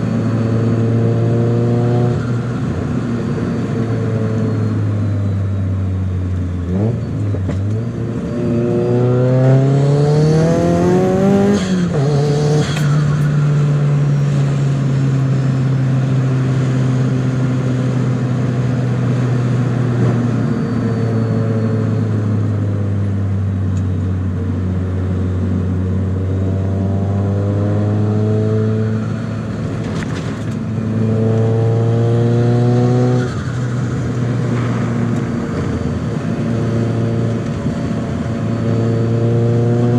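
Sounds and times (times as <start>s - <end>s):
car engine revving: 0.0s - 4.5s, 6.3s - 20.2s, 24.2s - 39.9s.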